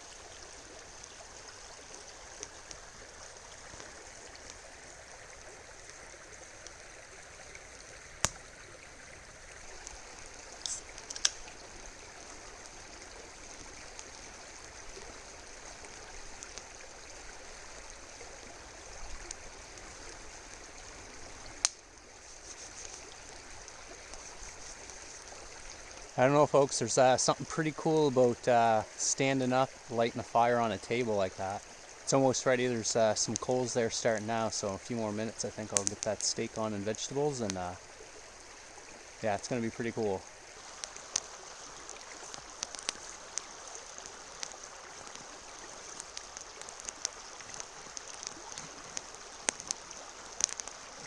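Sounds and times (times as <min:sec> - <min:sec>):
campfire snaps and pops: 0:00.0 - 0:51.0.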